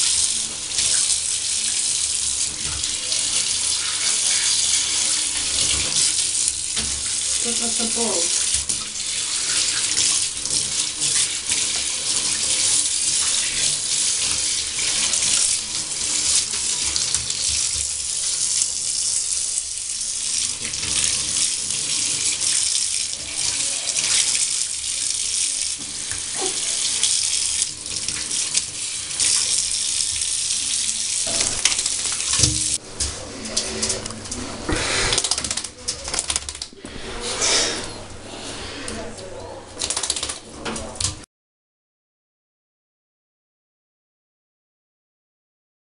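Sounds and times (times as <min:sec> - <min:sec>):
shower spraying water: 0:00.0 - 0:41.3.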